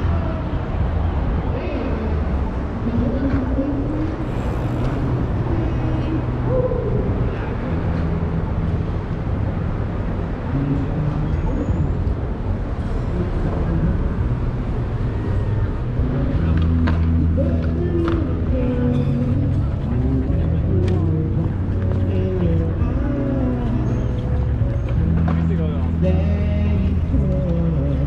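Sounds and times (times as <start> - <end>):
low engine hum: 0.0 - 28.0
traffic noise: 0.0 - 28.0.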